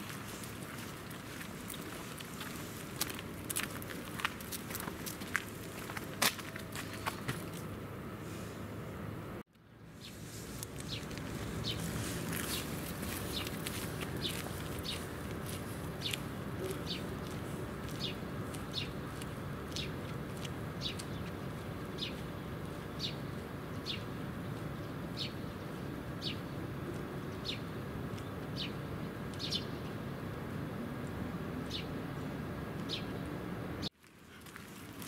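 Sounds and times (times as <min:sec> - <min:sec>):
outdoor background hum: 0:00.0 - 0:35.0.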